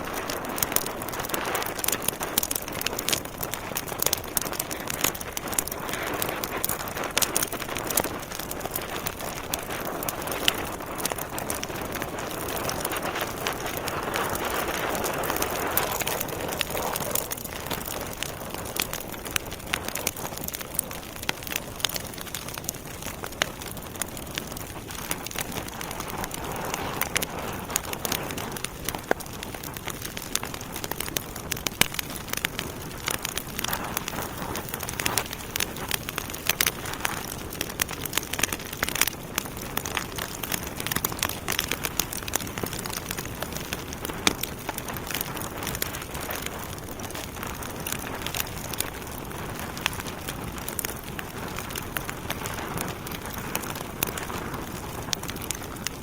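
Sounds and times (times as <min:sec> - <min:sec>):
hissing flame: 0:00.0 - 0:56.0
logs crackling and popping: 0:00.0 - 0:56.0.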